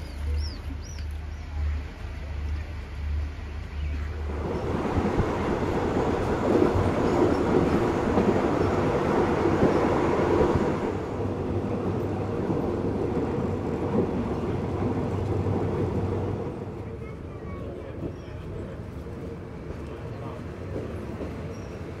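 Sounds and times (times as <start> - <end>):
moving train rumble: 0.0 - 22.0.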